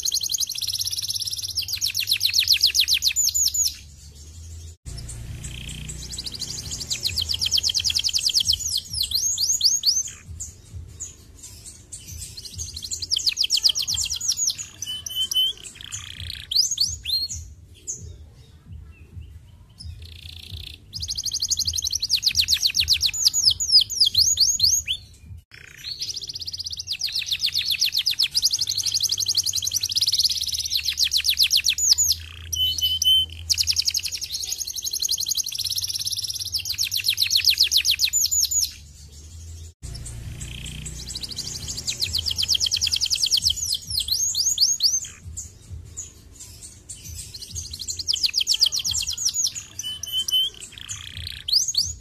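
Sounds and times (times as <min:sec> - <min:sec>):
canary singing fast trills: 0:00.0 - 0:18.0, 0:18.7 - 0:52.0.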